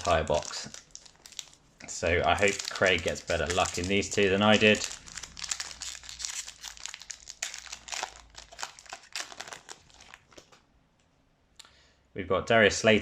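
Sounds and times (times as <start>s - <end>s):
plastic wrapper crinkling: 0.0s - 10.7s.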